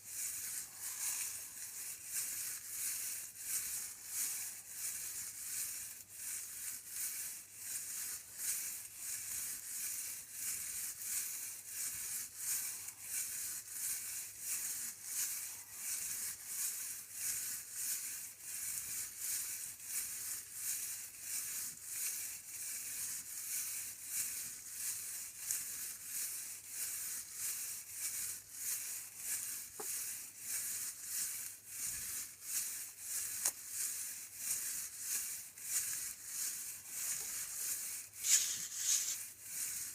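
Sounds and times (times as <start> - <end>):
rhythmic dry rattling: 0.0 - 39.9.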